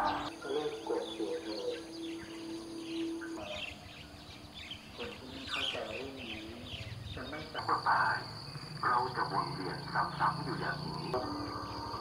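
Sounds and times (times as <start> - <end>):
faint voices: 0.0 - 3.9, 4.8 - 11.7
insect trilling: 0.0 - 12.0.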